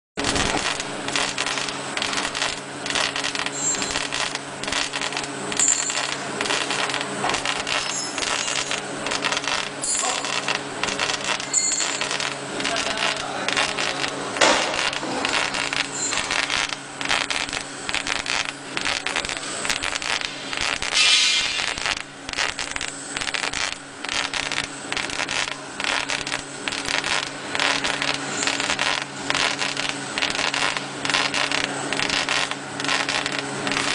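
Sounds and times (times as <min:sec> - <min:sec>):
laser engraver ticking crackle: 0:00.2 - 0:33.9
steady low hum: 0:00.2 - 0:33.9.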